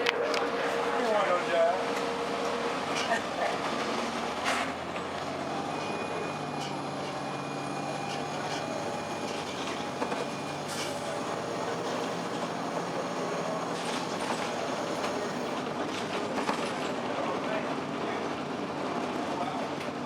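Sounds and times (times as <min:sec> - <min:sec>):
road noise: 0:00.0 - 0:19.4
bus diesel engine running: 0:00.0 - 0:20.0.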